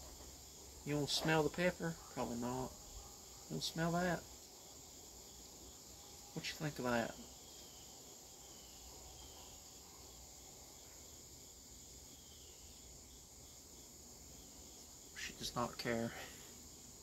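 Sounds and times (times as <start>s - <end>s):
faint high-pitched hiss: 0.0s - 17.0s.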